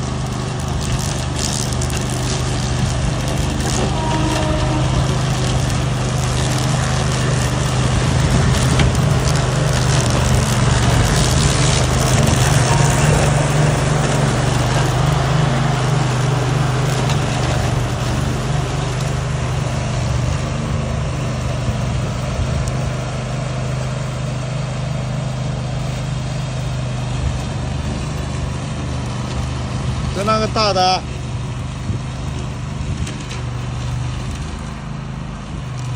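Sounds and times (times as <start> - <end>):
mower engine running: 0.0 - 35.9.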